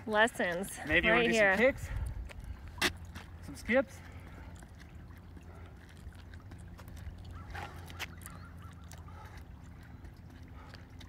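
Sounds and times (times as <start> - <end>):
footsteps on wet slush: 0.0 - 11.0
low outdoor rumble: 0.0 - 11.0.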